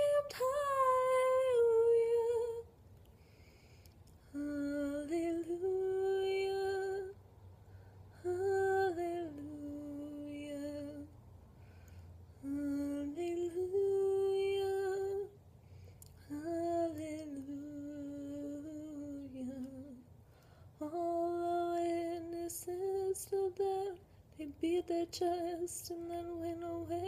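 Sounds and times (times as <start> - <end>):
woman singing unaccompanied: 0.0 - 2.7, 4.2 - 7.2, 8.1 - 11.2, 12.4 - 15.4, 16.2 - 20.1, 20.8 - 27.0.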